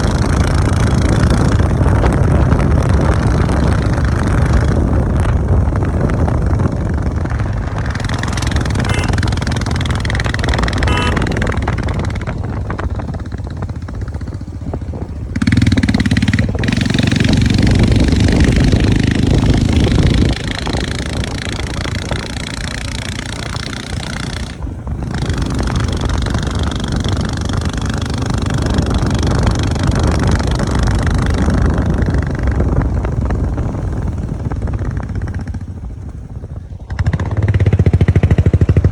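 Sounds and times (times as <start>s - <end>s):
motorcycle engine rumble: 0.0s - 38.9s
road and air noise: 0.0s - 38.9s.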